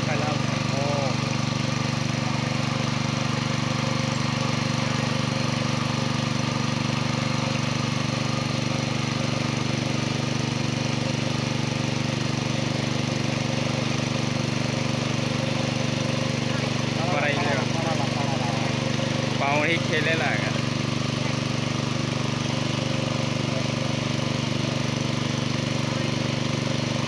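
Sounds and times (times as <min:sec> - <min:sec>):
small engine running steadily: 0:00.0 - 0:27.0.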